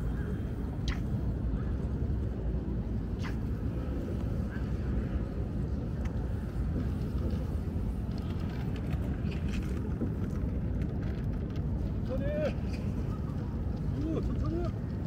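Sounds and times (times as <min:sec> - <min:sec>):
low rumble of park ambience: 0:00.0 - 0:15.0.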